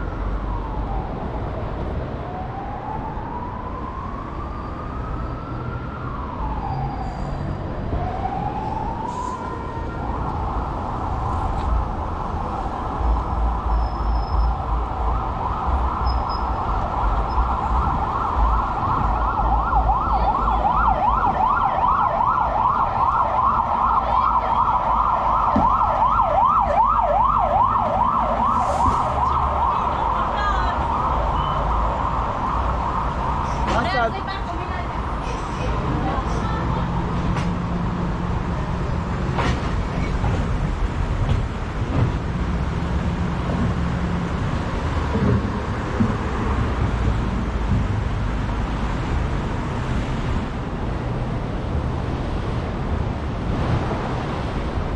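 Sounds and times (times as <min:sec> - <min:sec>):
emergency vehicle siren: 0:00.0 - 0:54.9
low traffic rumble: 0:00.0 - 0:54.9.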